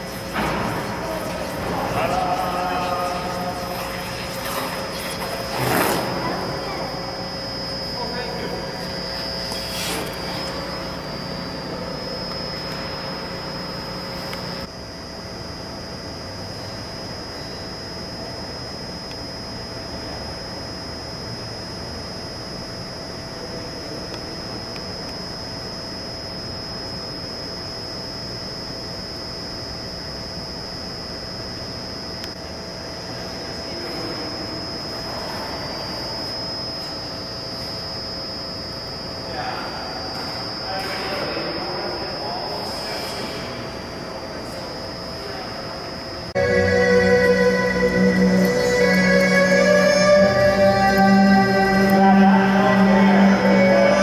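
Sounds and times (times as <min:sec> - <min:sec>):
machinery humming: 0:00.0 - 0:54.0
thin high whine: 0:00.0 - 0:54.0.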